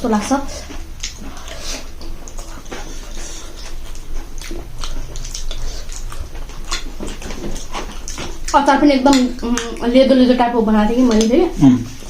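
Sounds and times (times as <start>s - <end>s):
steady low hum: 0.0s - 12.0s
chewing and lip smacks: 0.5s - 12.0s.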